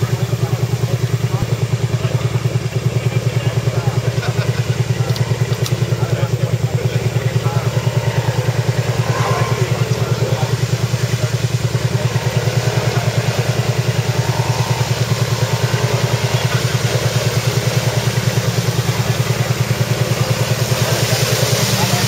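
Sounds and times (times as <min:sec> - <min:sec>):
atv engine idling: 0:00.0 - 0:22.0.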